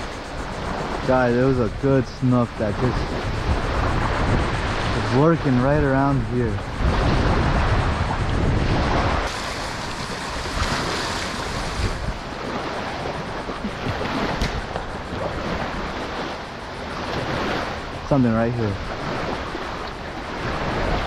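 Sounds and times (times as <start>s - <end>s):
small waves lapping: 0.0s - 21.0s
wind buffeting microphone: 0.0s - 21.0s.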